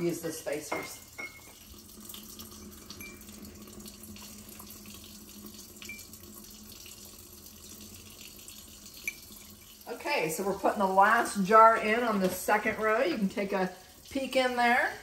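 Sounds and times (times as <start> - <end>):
water running from faucet: 0.0 - 15.0.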